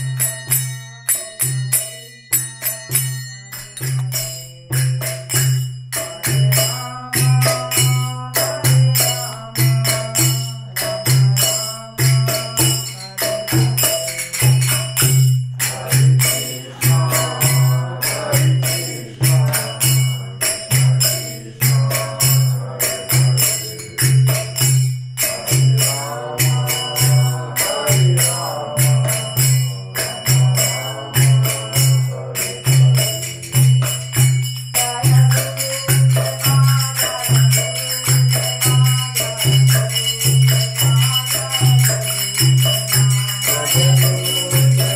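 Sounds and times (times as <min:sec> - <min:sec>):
jingling hand percussion: 0:00.0 - 0:44.9
voices singing a chant: 0:00.0 - 0:44.9.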